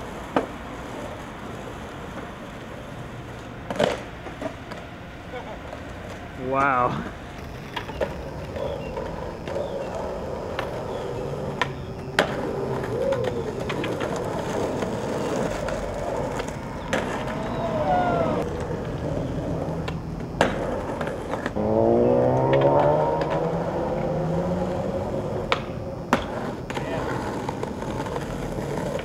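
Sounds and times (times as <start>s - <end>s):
skateboard clacks: 0.0s - 24.0s, 24.6s - 29.0s
skateboard wheels rolling on asphalt: 0.0s - 29.0s.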